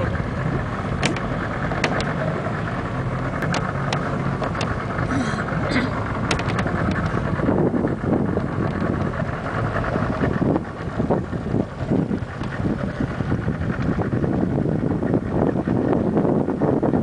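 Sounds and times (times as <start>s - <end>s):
wind buffeting the microphone: 0.0s - 17.0s.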